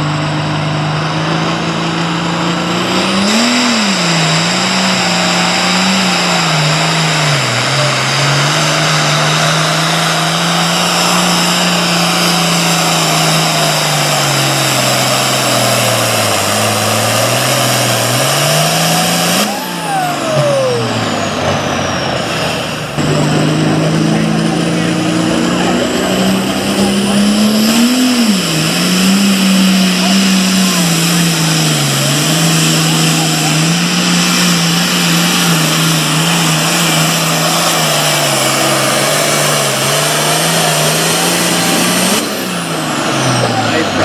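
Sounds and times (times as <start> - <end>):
tractor diesel engine under load: 0.0 - 44.0
tyre and exhaust noise: 0.0 - 44.0.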